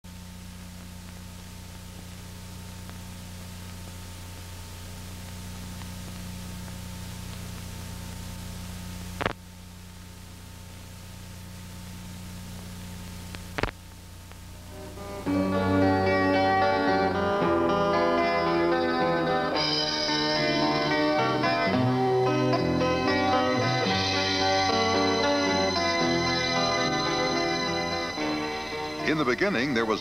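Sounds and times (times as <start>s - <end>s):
analog recording hiss and hum: 0.0s - 30.0s.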